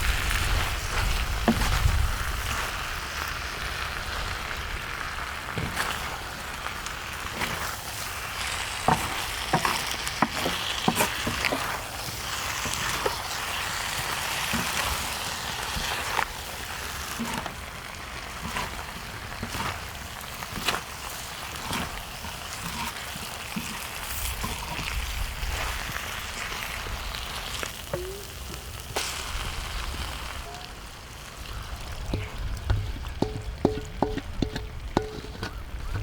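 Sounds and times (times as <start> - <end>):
meat sizzling on griddle: 0.0 - 33.5.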